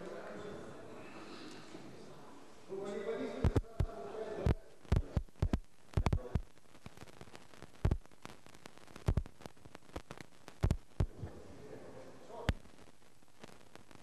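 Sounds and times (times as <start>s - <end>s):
steady low background noise: 0.0s - 14.0s.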